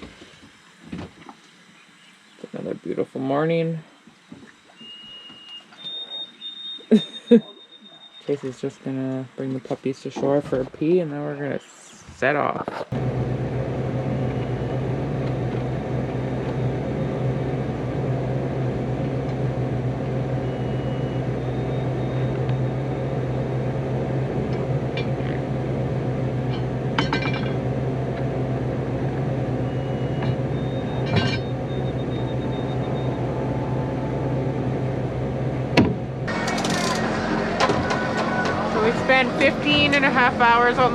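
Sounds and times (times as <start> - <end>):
boat engine droning: 0.0 - 11.4, 12.9 - 40.9.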